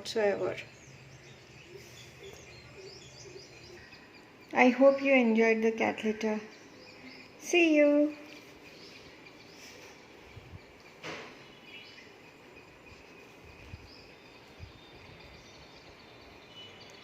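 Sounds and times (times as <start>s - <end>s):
faint background ambience: 0.0s - 17.0s
faint bird chirps: 0.0s - 17.0s.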